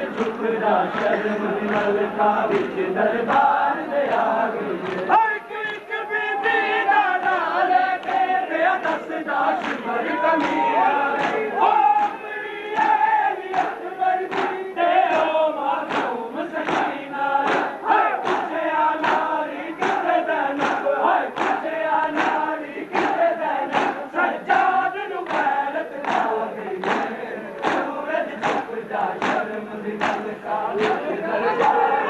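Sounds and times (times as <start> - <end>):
crowd of men chanting: 0.0 - 32.0
hands slapping chests: 0.1 - 3.5, 4.1 - 5.1, 7.2 - 8.2, 8.8 - 9.8, 10.4 - 31.8.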